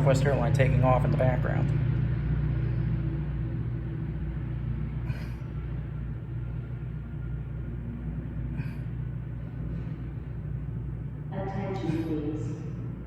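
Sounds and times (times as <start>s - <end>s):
diesel locomotive rumble: 0.0s - 13.0s.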